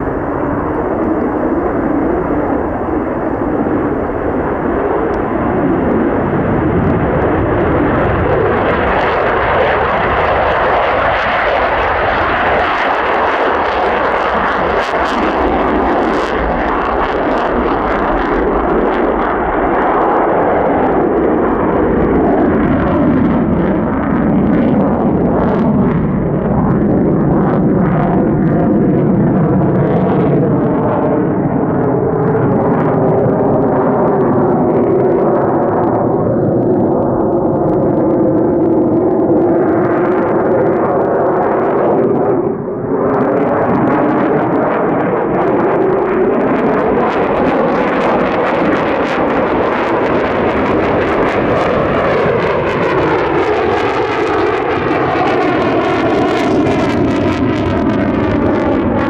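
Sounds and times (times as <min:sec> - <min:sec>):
jet engine roaring: 0:00.0 - 0:59.0.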